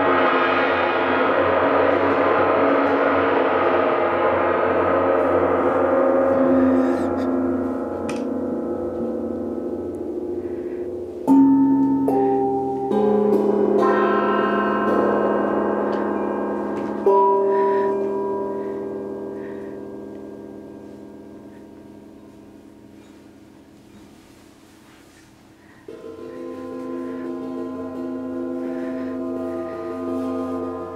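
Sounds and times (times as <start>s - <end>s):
large gongs ringing: 0.0s - 24.4s, 25.6s - 30.9s.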